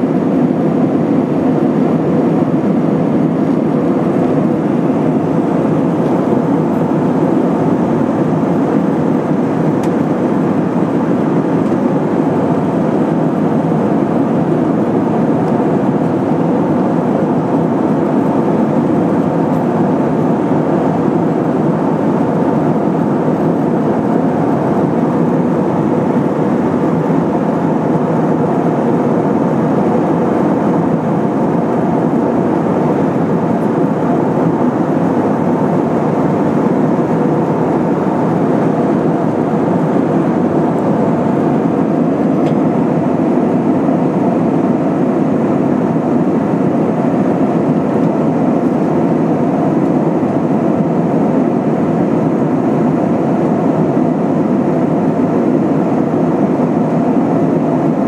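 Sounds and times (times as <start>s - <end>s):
air rushing in cabin: 0.0s - 58.0s
jet engines roaring: 0.0s - 58.0s.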